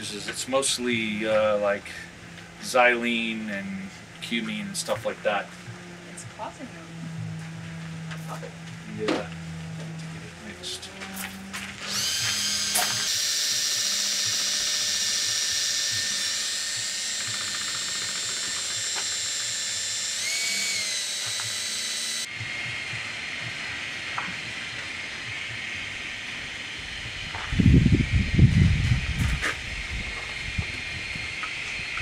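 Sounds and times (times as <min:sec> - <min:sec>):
drill whirring stirring paint: 0:00.0 - 0:32.0.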